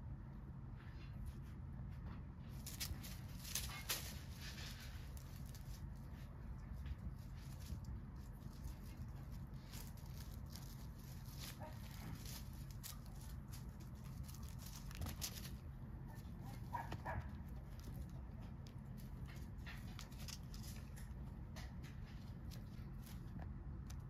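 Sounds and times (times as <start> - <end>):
low steady rumble: 0.0 - 24.0
cat rustling through dry leaves: 2.5 - 24.0.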